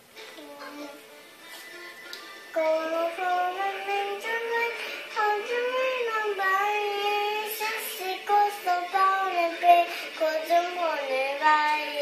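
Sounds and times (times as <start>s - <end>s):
girl singing unaccompanied: 0.2s - 1.0s, 2.5s - 12.0s.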